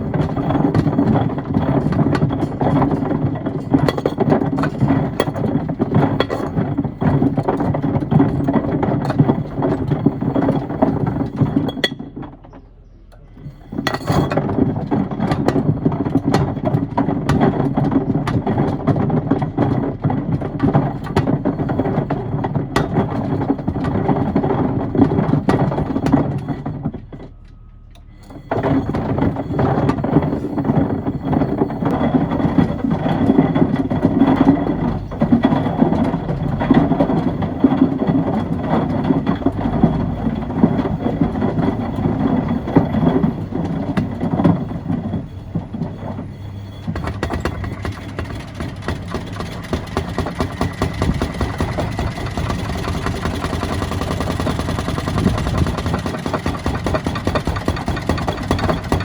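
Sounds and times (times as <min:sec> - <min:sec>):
washing machine tumbling wood and stones: 0:00.0 - 0:59.0.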